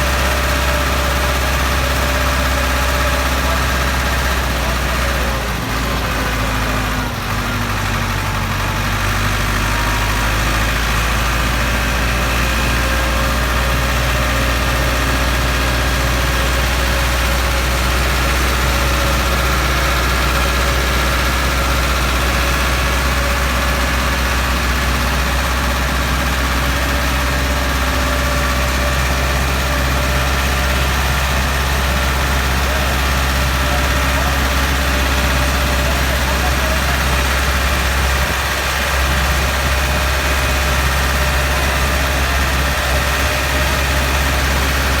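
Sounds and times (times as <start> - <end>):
tractor diesel engine droning: 0.0 - 45.0.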